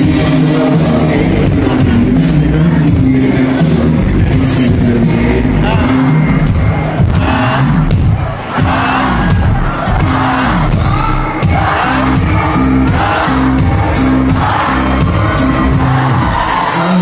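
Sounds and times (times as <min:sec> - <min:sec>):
bass line: 0:00.0 - 0:17.0
crowd voices: 0:00.0 - 0:17.0
lead singing: 0:00.0 - 0:17.0
live rock band: 0:00.0 - 0:17.0.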